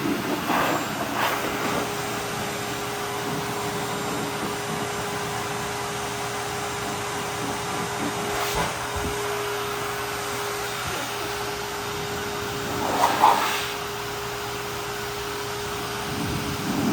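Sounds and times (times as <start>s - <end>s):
hair dryer blowing: 0.0s - 16.9s.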